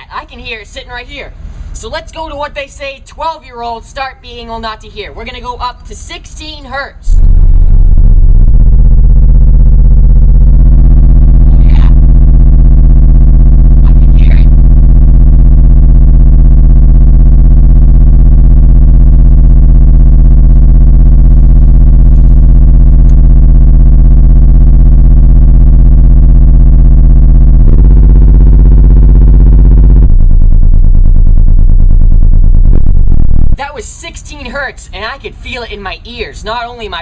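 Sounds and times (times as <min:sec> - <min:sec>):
subwoofer test tone buzz: 0:00.0 - 0:37.0.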